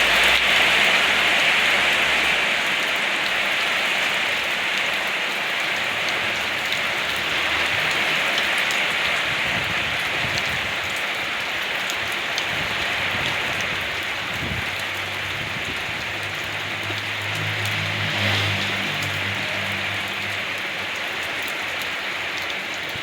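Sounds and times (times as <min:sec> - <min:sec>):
heavy rain on a surface: 0:00.0 - 0:23.0.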